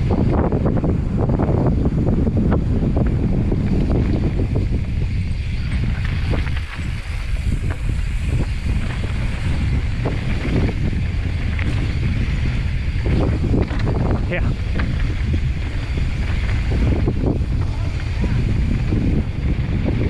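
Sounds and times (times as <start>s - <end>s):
bike knocking and rattling: 0.0s - 20.0s
bike tyres rolling on dirt: 0.0s - 20.0s
wind on microphone: 0.0s - 20.0s.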